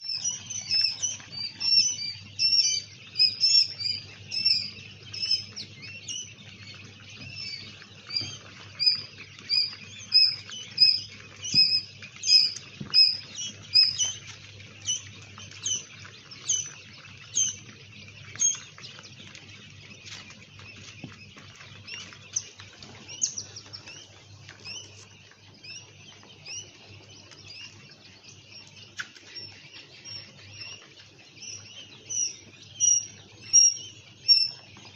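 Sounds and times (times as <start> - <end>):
quail chirping high peeps: 0.0 - 34.9.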